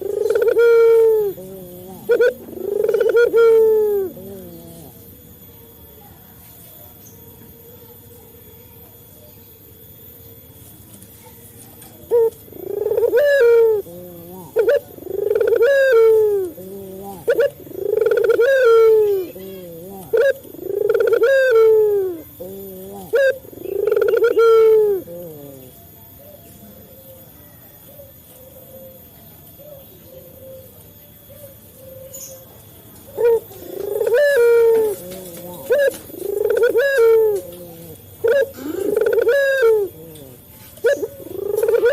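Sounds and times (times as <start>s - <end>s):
dove cooing: 0.0s - 10.1s, 10.9s - 41.9s.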